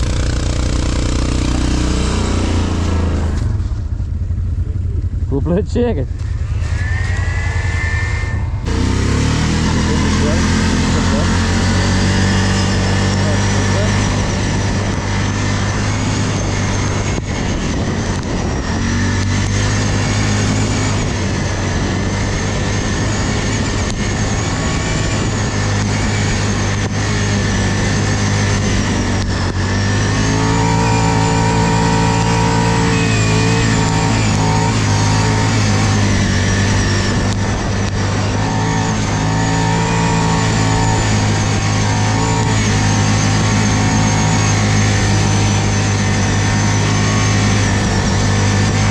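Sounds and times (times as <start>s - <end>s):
atv engine running under load: 0.0s - 48.9s.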